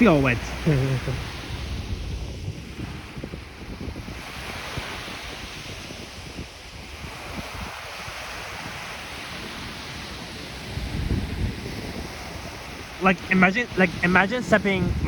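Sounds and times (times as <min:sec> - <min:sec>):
small waves washing onto beach: 0:00.0 - 0:15.0
wind buffeting microphone: 0:00.0 - 0:15.0.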